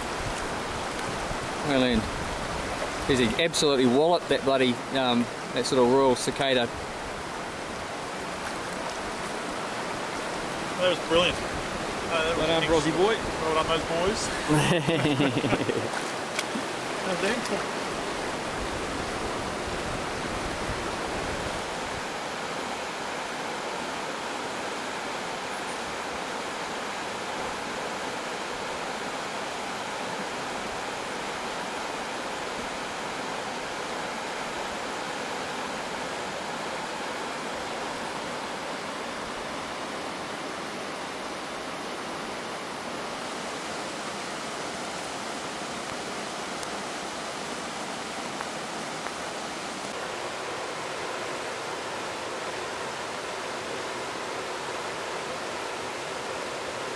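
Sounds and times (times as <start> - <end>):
river flowing over rocks: 0.0 - 56.9.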